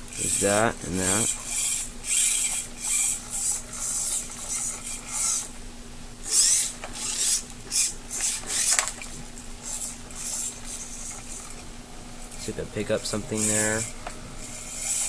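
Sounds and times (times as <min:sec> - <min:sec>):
servos whirring: 0:00.0 - 0:15.0
steady low hum: 0:00.0 - 0:15.0.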